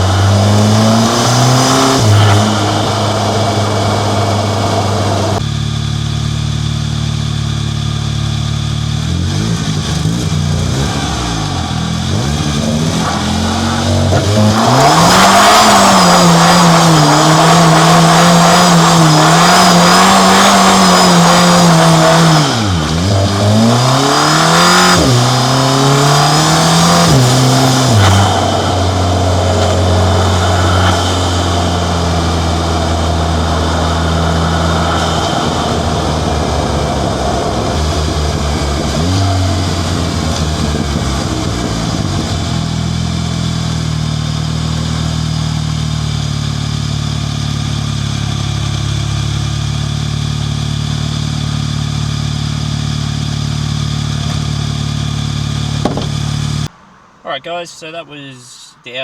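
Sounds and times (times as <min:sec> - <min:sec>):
car engine revving: 0:00.0 - 0:57.1.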